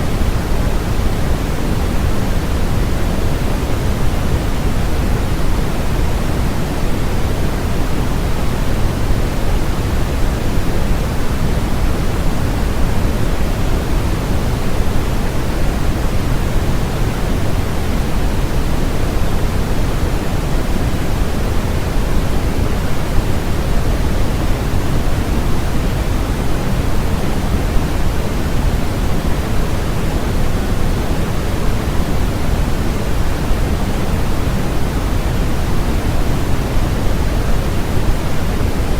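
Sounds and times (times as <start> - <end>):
steady synthetic noise hiss: 0.0 - 38.9.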